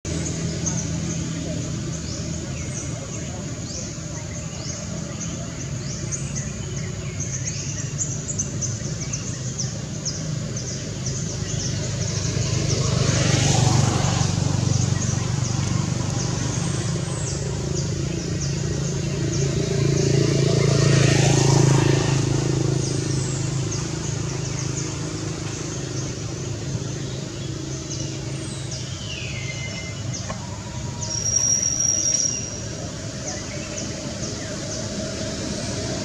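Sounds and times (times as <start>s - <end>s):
traffic engine hum: 0.0s - 36.0s.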